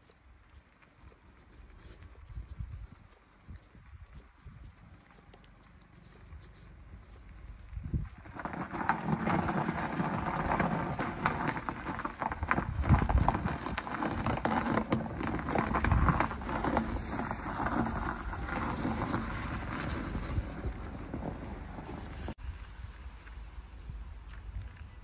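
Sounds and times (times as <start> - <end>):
tyres crunching on snowy road: 0.0 - 25.0.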